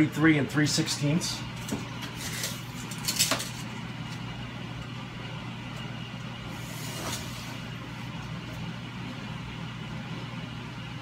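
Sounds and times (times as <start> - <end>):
workshop background hum: 0.0 - 11.0.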